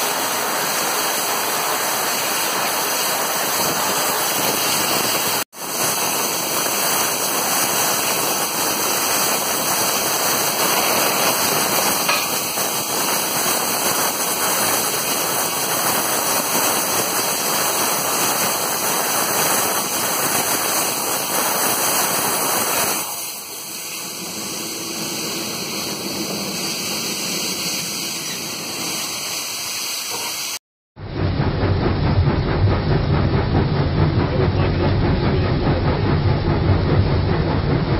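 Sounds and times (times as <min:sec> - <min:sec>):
rushing hiss of steam: 0:00.0 - 0:30.6.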